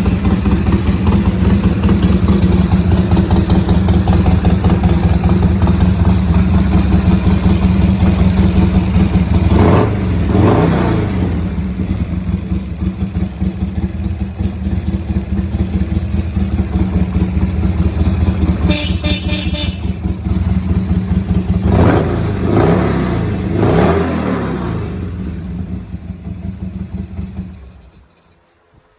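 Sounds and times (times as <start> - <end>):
motorcycle engine idling: 0.0 - 28.8.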